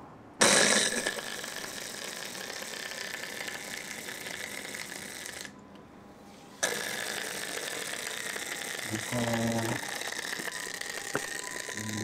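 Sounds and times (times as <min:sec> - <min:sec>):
handheld device whirring: 0:00.6 - 0:05.6, 0:06.6 - 0:12.0.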